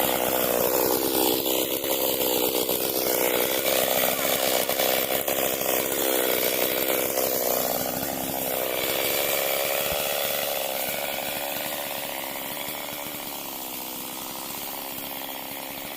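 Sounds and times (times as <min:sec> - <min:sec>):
chainsaw running hard: 0:00.0 - 0:15.9.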